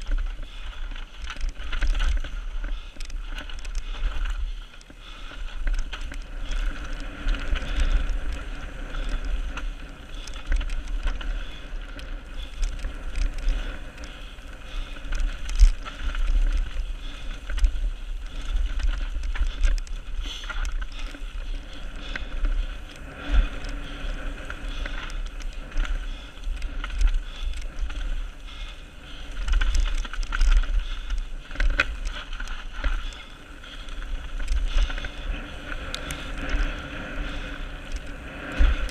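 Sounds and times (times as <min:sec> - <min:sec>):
bike clicks and rattles: 0:00.0 - 0:38.9.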